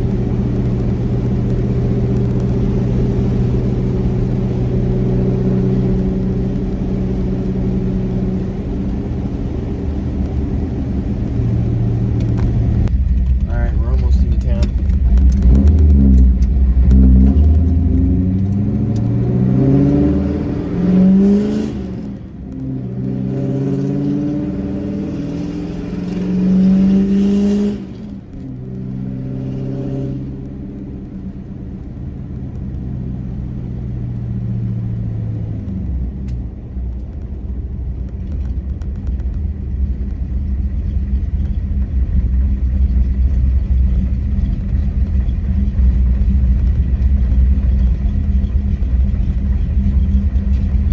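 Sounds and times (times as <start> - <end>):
pickup truck engine accelerating: 0.0 - 50.9.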